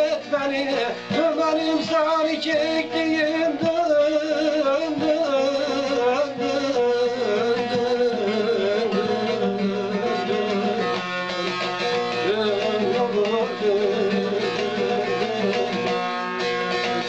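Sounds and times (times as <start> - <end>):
plucked-string folk melody: 0.0 - 17.0
steady accompaniment: 0.0 - 17.0.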